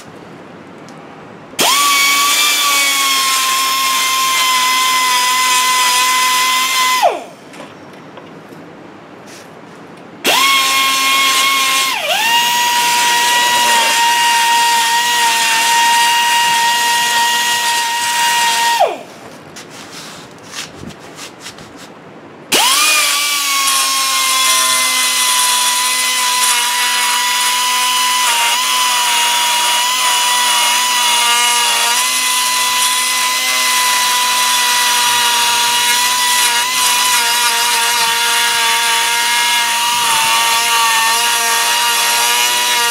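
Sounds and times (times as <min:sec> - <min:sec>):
rotary power tool whining: 0:01.6 - 0:07.3, 0:10.2 - 0:19.0, 0:22.5 - 0:42.9.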